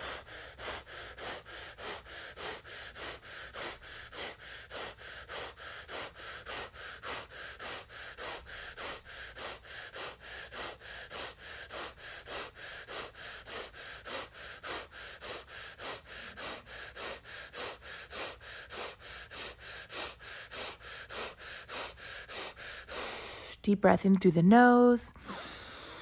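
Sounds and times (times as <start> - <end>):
rapid rhythmic breathing: 0.0 - 23.8, 24.6 - 26.0.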